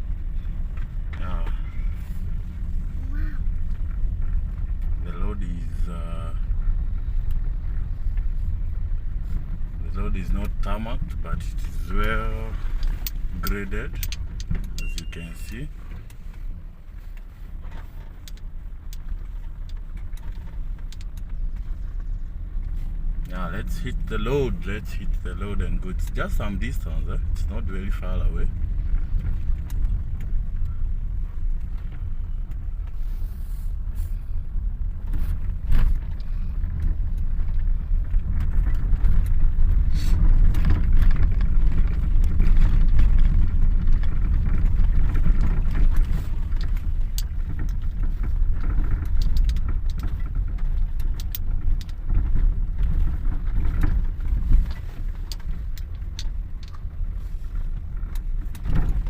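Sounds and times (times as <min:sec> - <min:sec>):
gravel clicks and rattles: 0:00.0 - 0:59.0
vehicle rumbling on dirt road: 0:00.0 - 0:59.0.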